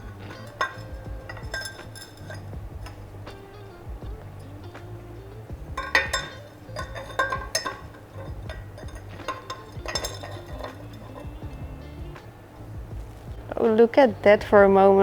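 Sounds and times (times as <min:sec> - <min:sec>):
metal cylinders clinking: 0:00.0 - 0:13.3
quiet background music: 0:00.0 - 0:15.0.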